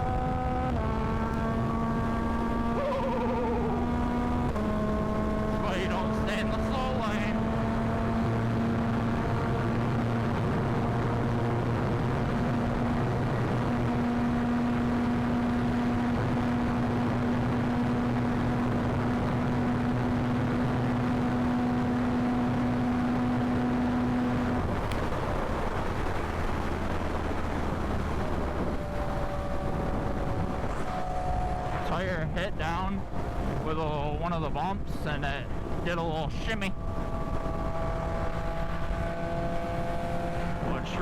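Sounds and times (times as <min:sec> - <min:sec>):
wind rush: 0:00.0 - 0:41.0.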